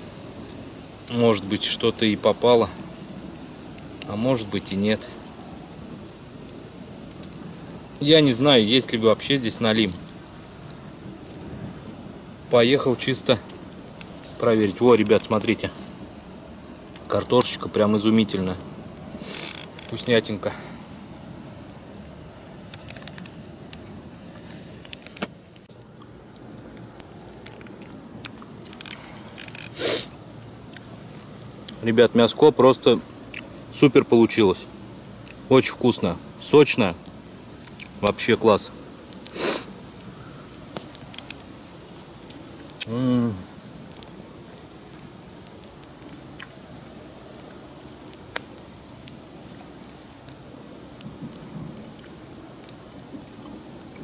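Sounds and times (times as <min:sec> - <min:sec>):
campfire embers crackling: 0:00.0 - 0:54.0.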